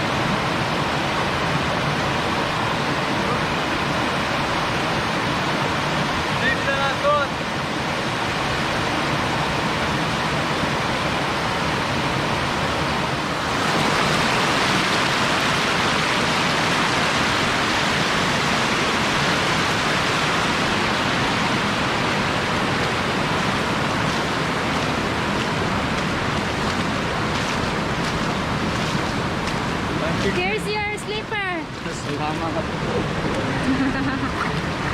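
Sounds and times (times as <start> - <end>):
river water flowing over rocks: 0.0 - 34.9.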